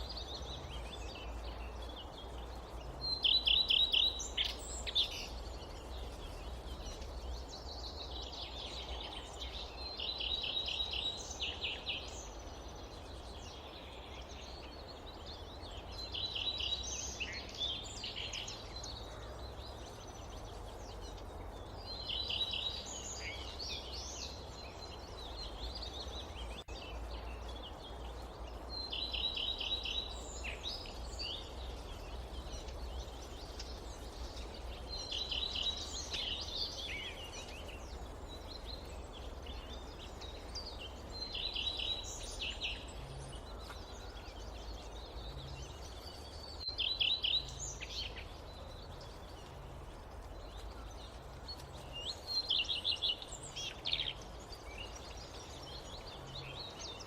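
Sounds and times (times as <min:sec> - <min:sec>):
low forest ambience: 0:00.0 - 0:57.0.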